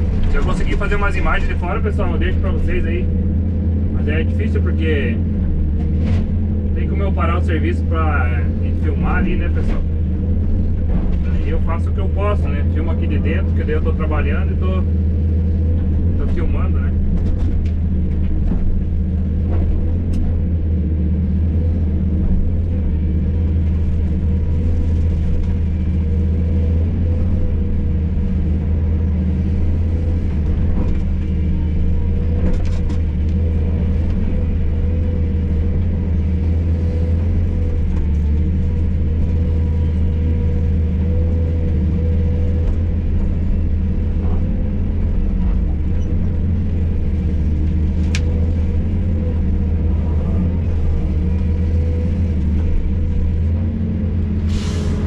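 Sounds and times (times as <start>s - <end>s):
excavator diesel engine running: 0.0s - 55.0s
steady whine: 0.0s - 55.0s.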